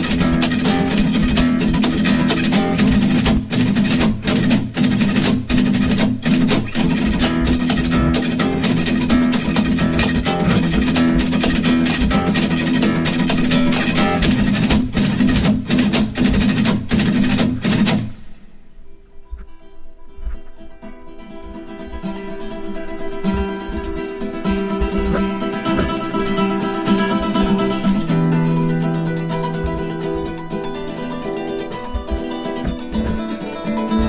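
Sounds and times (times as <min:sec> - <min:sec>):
percussive beat: 0:00.0 - 0:18.5, 0:20.2 - 0:34.0
fast acoustic guitar music: 0:00.0 - 0:34.0.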